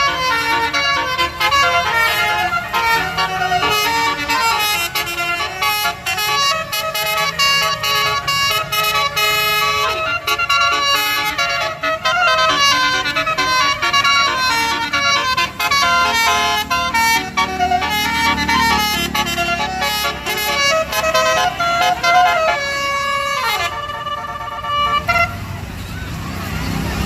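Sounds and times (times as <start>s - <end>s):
multi-trumpet horn playing tune: 0.0s - 25.4s.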